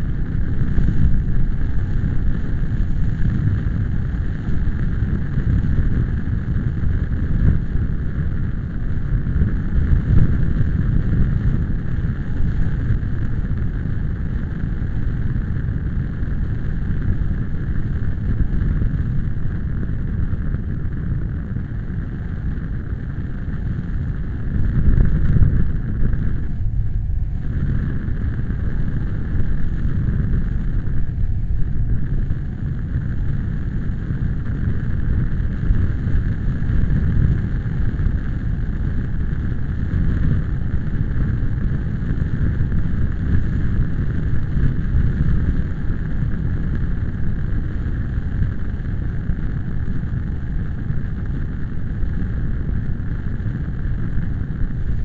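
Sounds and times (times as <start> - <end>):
gusty wind buffeting microphone: 0.0 - 55.0.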